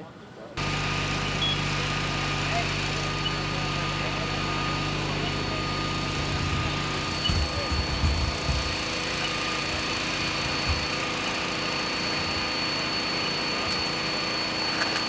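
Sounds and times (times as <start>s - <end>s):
diesel engine idling: 0.6s - 15.0s
thin high whine: 0.6s - 15.0s.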